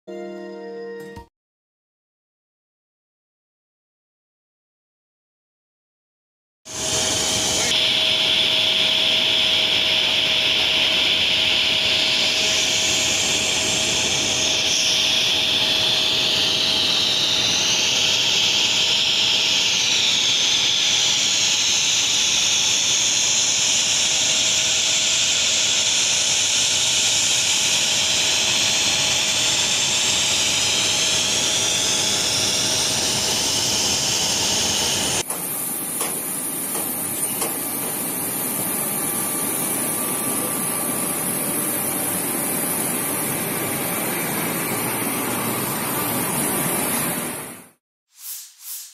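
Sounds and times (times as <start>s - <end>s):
jet engine whining: 6.7s - 47.8s.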